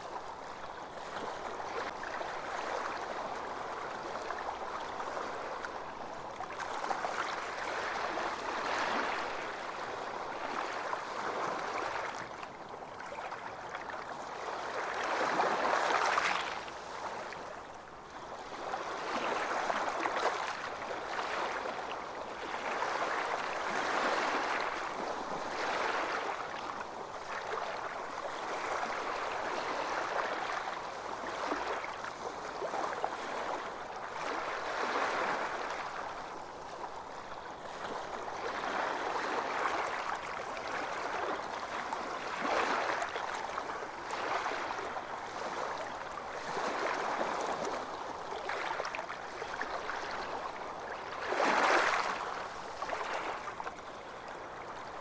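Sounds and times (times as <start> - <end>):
small waves washing onto beach: 0.0 - 55.0.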